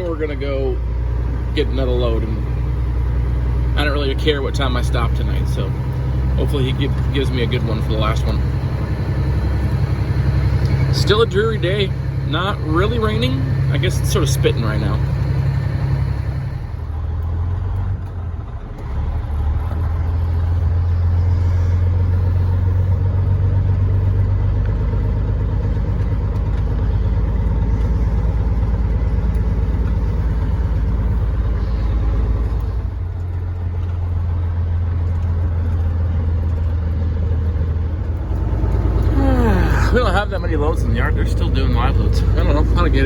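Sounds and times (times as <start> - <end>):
diesel engine drone: 0.0 - 43.0.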